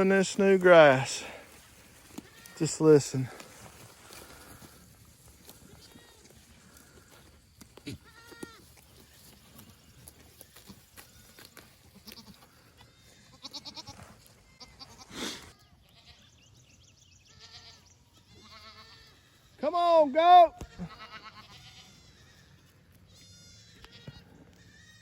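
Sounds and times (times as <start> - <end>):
goats bleating: 0.0 - 16.4, 17.2 - 25.0.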